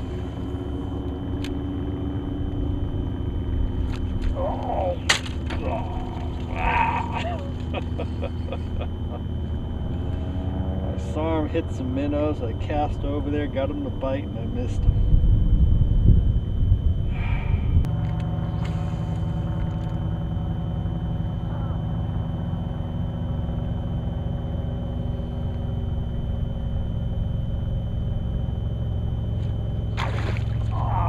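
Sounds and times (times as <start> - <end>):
electric trolling motor humming: 0.0 - 31.0.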